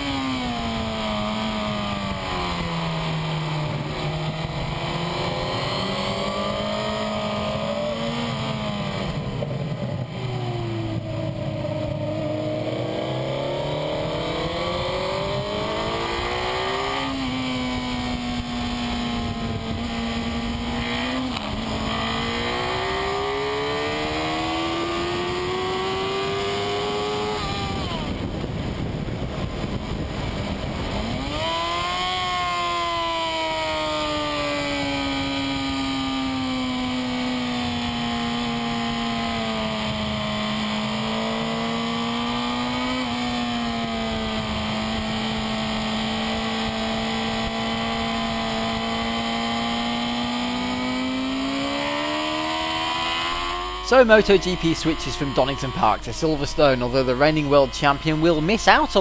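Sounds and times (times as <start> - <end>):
superbike engine revving: 0.0 - 59.0.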